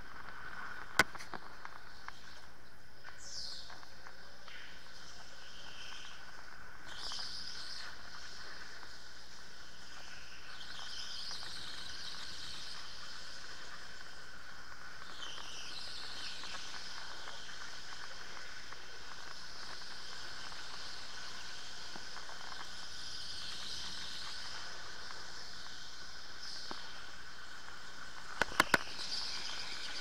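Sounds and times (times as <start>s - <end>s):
light rattle of ticks: 0.0s - 30.0s.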